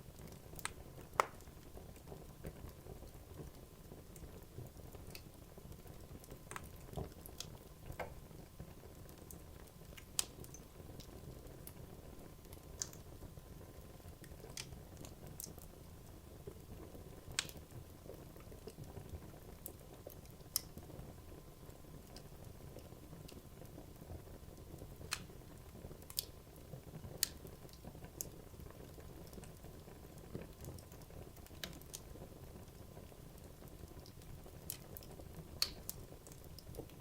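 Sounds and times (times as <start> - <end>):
fire crackling and popping: 0.0 - 37.0.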